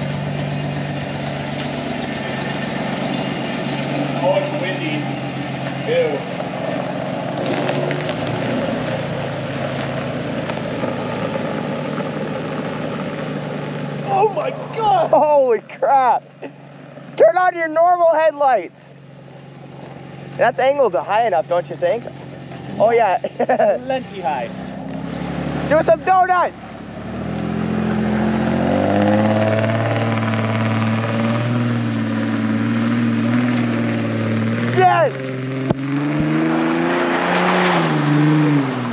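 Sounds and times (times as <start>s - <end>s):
truck engine with loud exhaust: 0.0s - 38.9s.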